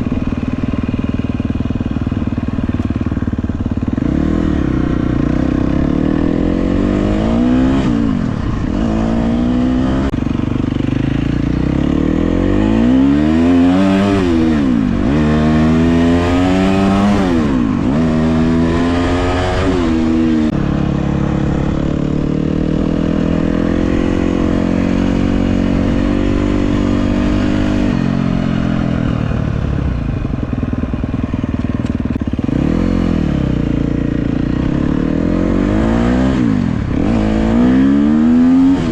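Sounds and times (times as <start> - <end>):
dirt bike engine revving: 0.0 - 29.3, 32.1 - 38.9.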